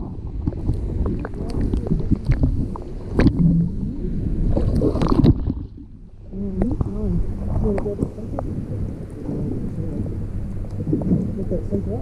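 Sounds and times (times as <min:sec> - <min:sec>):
water rushing and gurgling: 0:00.0 - 0:12.0.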